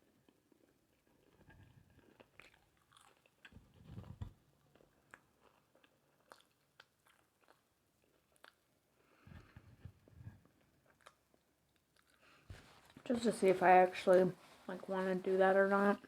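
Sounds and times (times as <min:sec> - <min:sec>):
chewing and biting food: 0:00.1 - 0:13.0.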